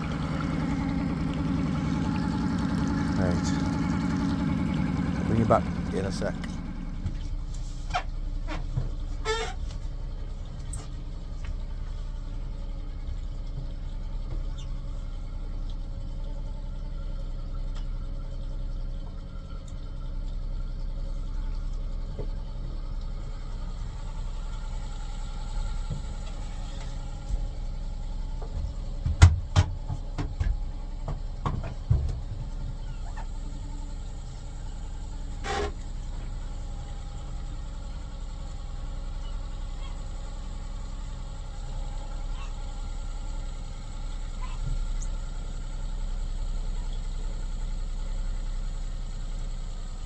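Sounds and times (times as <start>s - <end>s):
outboard motor idling: 0.0s - 50.0s.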